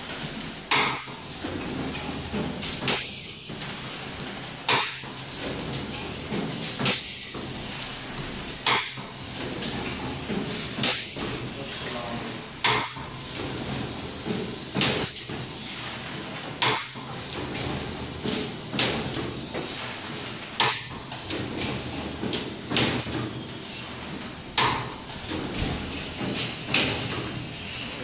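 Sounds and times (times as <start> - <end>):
steady mechanical running noise: 0.0 - 28.0.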